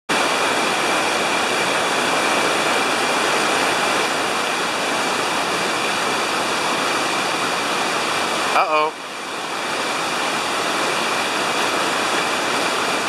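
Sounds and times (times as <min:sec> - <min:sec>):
river rapid rushing: 0:00.1 - 0:13.0.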